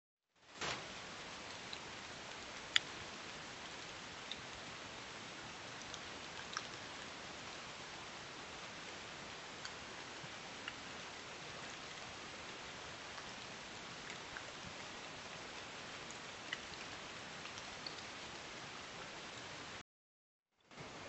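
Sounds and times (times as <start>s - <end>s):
steady hiss: 0.4s - 19.8s, 20.7s - 21.0s.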